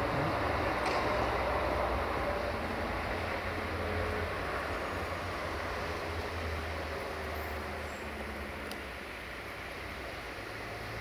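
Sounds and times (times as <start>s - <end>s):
distant diesel locomotive hum: 0.0s - 11.0s.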